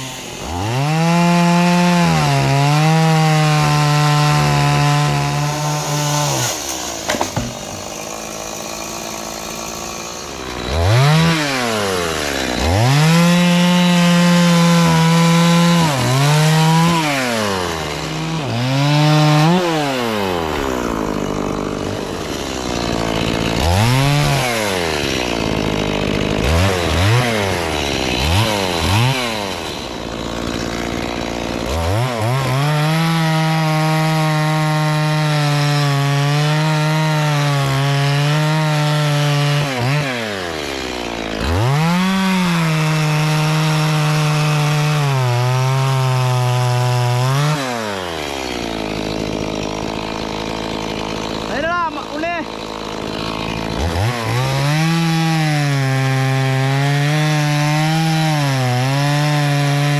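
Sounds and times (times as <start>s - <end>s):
chainsaw revving and cutting wood: 0.0s - 59.9s.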